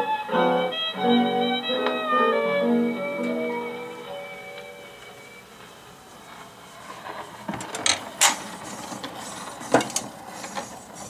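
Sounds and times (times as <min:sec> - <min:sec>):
record surface hiss: 0:00.0 - 0:11.0.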